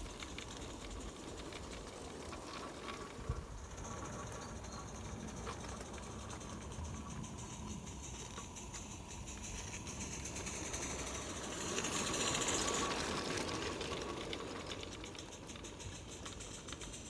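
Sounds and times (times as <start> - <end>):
model steam locomotive chuffing: 0.0 - 17.0.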